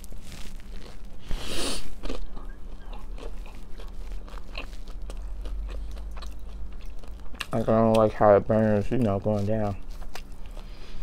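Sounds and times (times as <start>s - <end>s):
chewing with mouth clicks: 1.8s - 11.0s.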